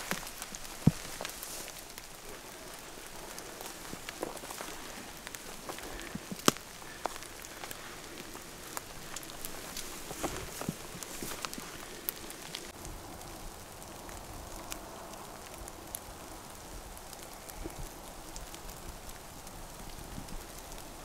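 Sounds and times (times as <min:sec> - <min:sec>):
light rain pattering: 0:00.0 - 0:21.0.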